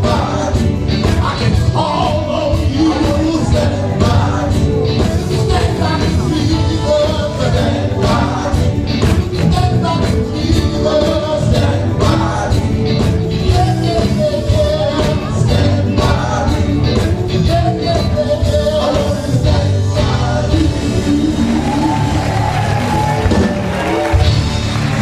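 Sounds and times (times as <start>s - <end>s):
bass: 0.0s - 25.0s
drum beat: 0.0s - 25.0s
gospel voices singing: 0.0s - 25.0s.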